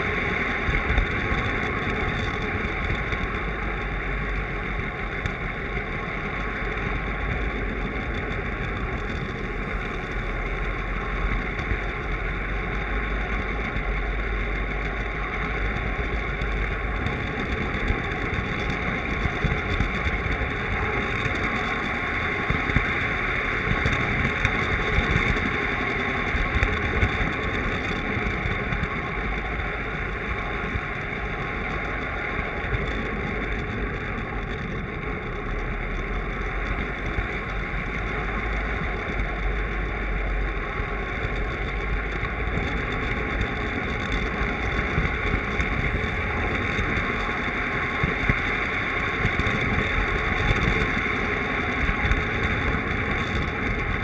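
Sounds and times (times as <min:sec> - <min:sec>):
model train wheels and motor rumbling: 0:00.0 - 0:54.0.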